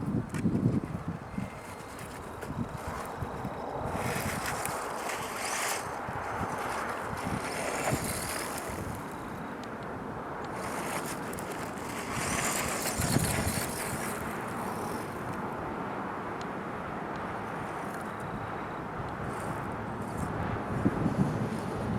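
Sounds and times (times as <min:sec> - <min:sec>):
remote control truck whirring: 0:00.0 - 0:15.7, 0:17.1 - 0:21.7.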